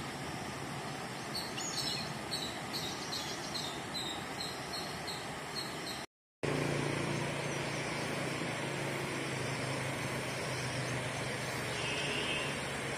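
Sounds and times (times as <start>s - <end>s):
river running over rocks: 0.0s - 12.9s.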